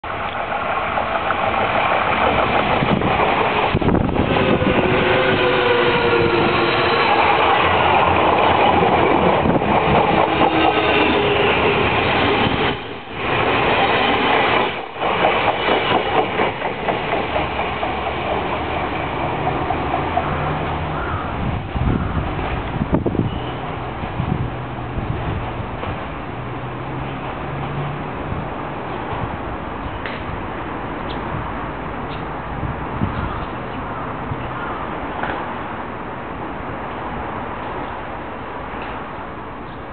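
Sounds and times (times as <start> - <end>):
electric train passing: 0.0 - 39.9.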